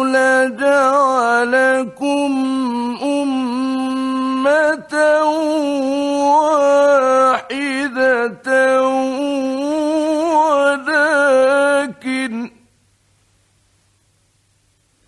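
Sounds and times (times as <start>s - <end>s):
man chanting melodically: 0.0s - 12.6s.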